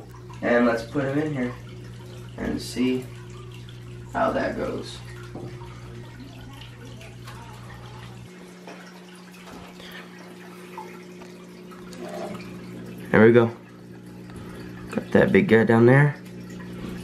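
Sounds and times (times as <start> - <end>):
steady low hum: 0.0 - 17.0
water splashing and dripping: 0.0 - 17.0.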